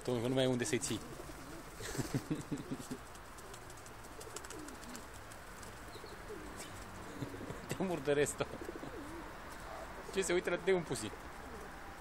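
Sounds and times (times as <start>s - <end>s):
wings fluttering: 0.0s - 9.8s
pigeons cooing: 0.6s - 12.0s.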